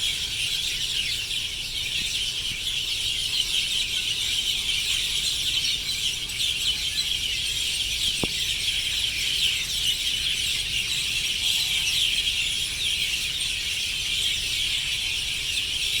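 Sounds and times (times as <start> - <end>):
sparrows chirping in chorus: 0.0 - 16.0.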